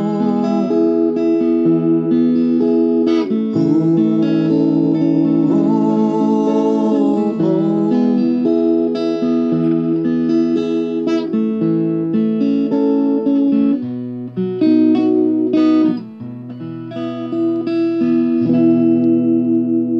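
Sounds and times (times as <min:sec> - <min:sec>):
acoustic guitar picking: 0:00.0 - 0:19.9.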